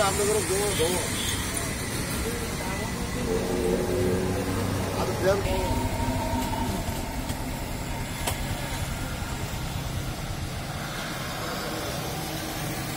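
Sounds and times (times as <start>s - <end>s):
road traffic rumble: 0.0s - 12.9s.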